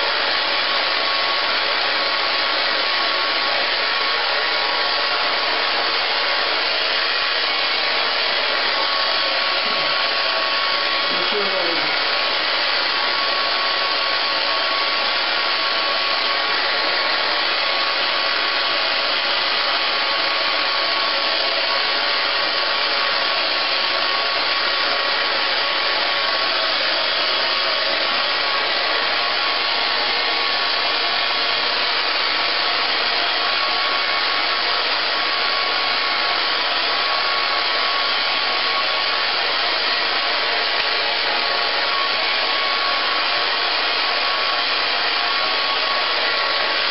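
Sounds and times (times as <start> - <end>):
hair dryer blowing: 0.0 - 46.9.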